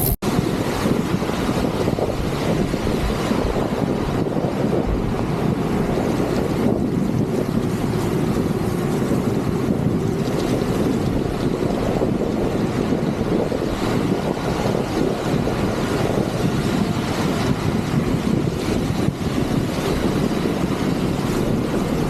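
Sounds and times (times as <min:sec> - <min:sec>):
heavy rain: 0:00.0 - 0:22.0
wet road spray: 0:00.0 - 0:22.0
wind buffeting microphone: 0:00.0 - 0:22.0.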